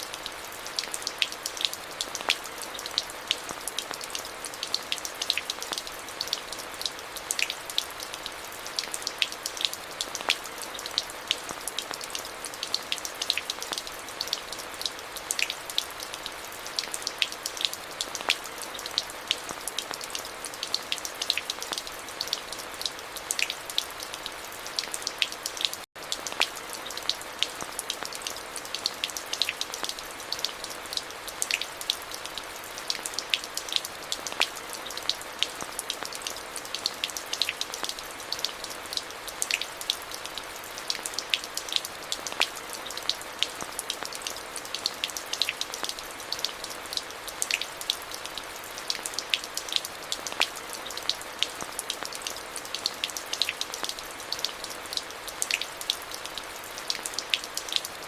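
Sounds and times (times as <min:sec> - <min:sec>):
hiss of falling rain: 0:00.0 - 0:58.0
raindrops ticking on hard surfaces: 0:00.0 - 0:58.0.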